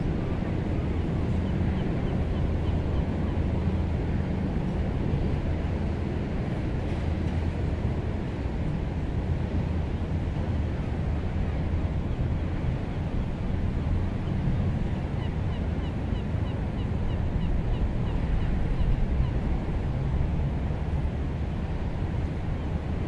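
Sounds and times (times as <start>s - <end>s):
ship engine rumbling: 0.0s - 23.0s
wind: 0.0s - 23.0s.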